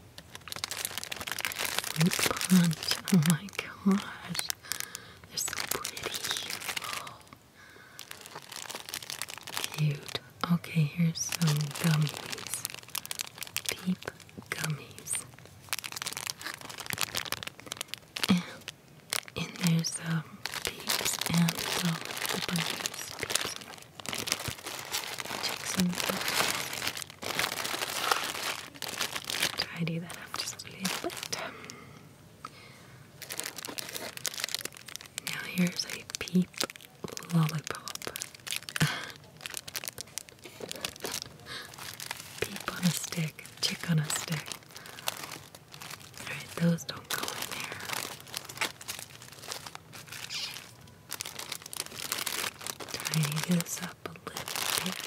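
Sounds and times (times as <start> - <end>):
plastic packaging crinkling: 0.0 - 31.9, 32.6 - 55.0.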